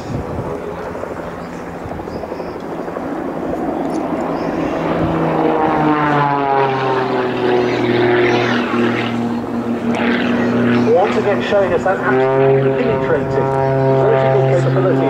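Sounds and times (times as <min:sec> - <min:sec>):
propeller plane engine at full power: 0:00.0 - 0:15.0.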